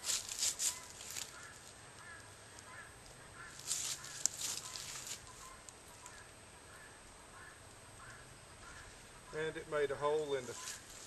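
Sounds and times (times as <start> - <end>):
faint short bird calls: 0.6 - 11.0.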